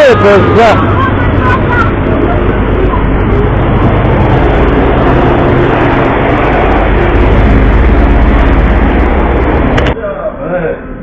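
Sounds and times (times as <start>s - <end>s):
boat engine running: 0.0s - 10.0s
sea noise: 0.0s - 10.0s
wind: 0.0s - 11.0s.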